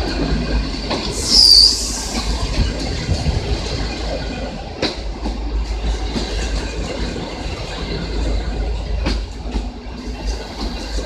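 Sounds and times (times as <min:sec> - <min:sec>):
train coaches rumbling: 0:00.0 - 0:11.0
wheels clicking over rail joints: 0:00.0 - 0:11.0.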